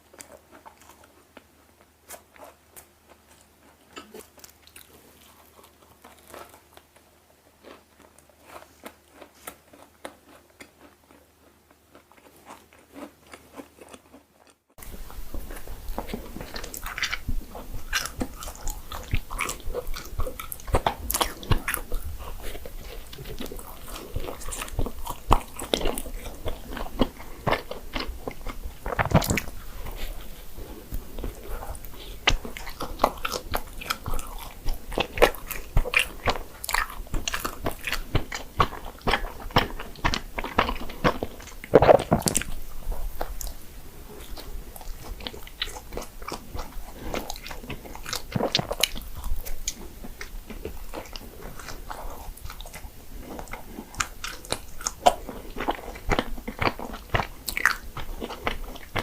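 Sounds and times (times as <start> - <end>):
chewing with crackling bites: 0.0 - 59.0.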